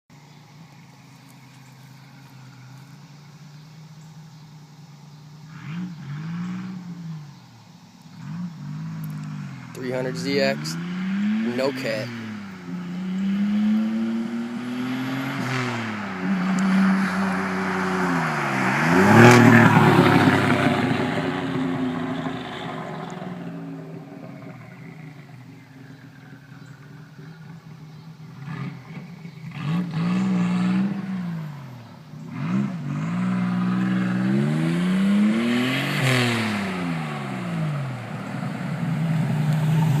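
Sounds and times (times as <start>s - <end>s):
car engine revving: 5.4s - 40.0s.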